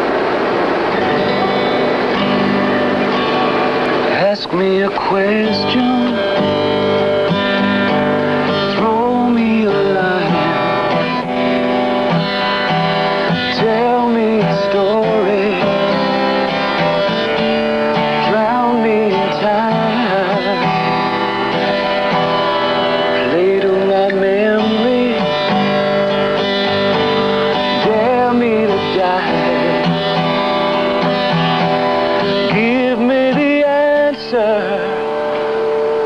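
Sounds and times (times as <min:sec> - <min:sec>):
acoustic guitar strumming: 0:00.0 - 0:36.0
sliding guitar melody: 0:00.0 - 0:36.0.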